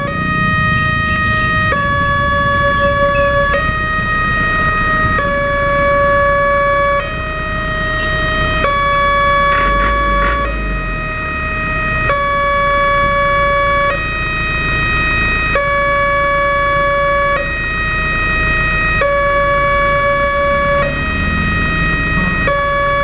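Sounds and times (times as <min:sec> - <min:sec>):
level crossing warning siren: 0:00.0 - 0:23.0.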